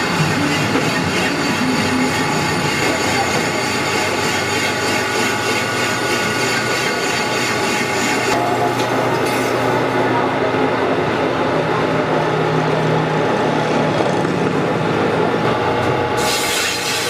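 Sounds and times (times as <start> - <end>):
machine whining: 0.0 - 17.0.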